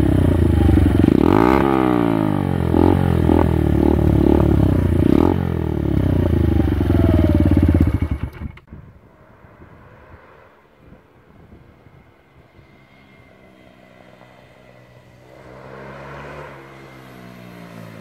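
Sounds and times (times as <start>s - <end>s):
motorcycle engine idling and revving: 0.0s - 8.8s, 10.8s - 18.0s.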